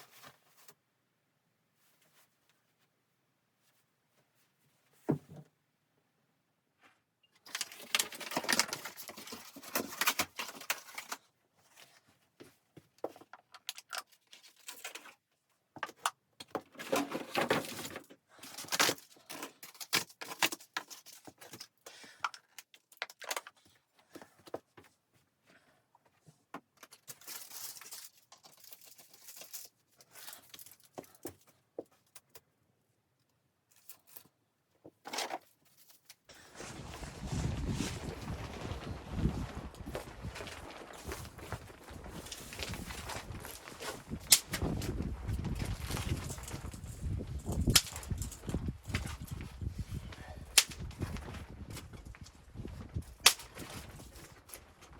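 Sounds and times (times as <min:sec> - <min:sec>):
rustling and crinkling: 0:00.0 - 0:00.9, 0:01.7 - 0:05.6, 0:06.8 - 0:32.6, 0:33.6 - 0:54.9.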